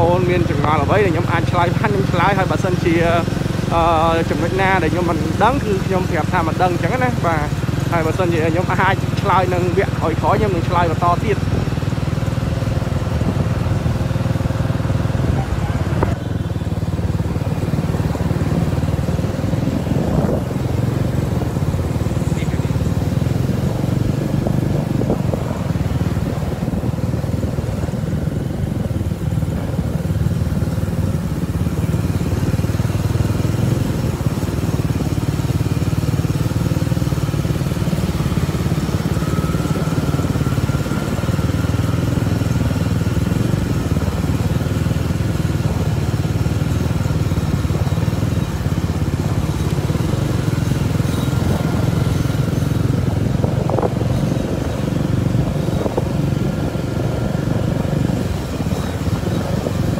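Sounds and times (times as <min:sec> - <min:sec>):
motorcycle engines droning: 0:00.0 - 0:59.9.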